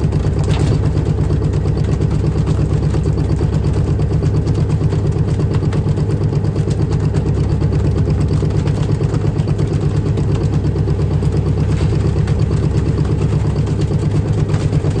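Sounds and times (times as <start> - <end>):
boat diesel engine running: 0.0 - 15.0.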